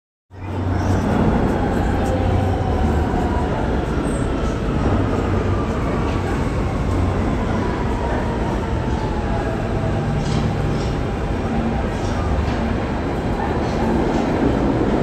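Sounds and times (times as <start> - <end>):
subway train wheels rumbling: 0.4 - 15.0.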